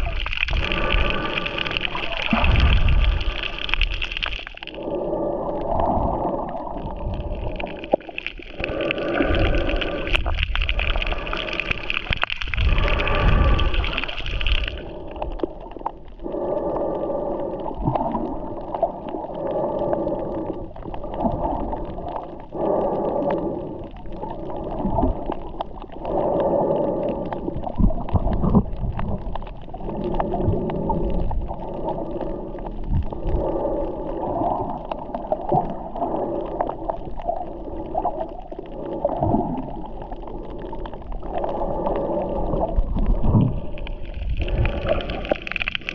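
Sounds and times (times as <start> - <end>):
underwater water gurgling: 0.0 - 45.9.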